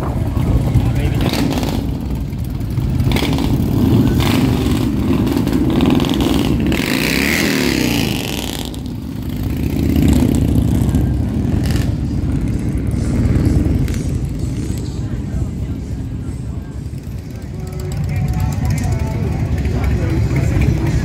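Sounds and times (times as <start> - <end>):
motorcycle engines running: 0.0 - 21.0.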